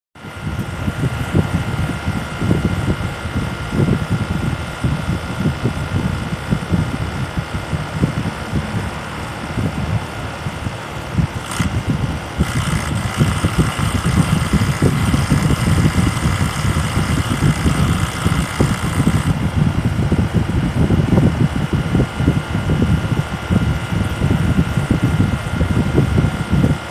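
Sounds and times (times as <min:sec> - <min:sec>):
heat pump low rumble: 0:00.2 - 0:26.9.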